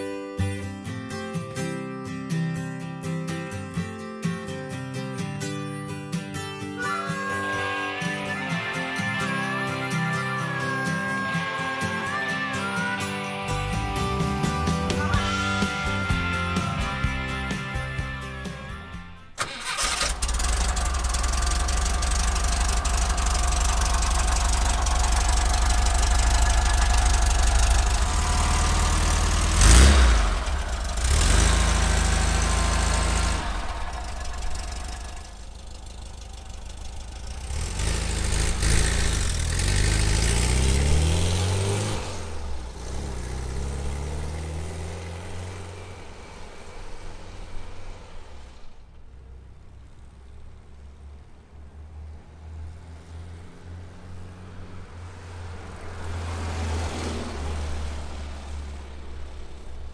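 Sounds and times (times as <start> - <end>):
van engine idling and accelerating: 0.0 - 59.9.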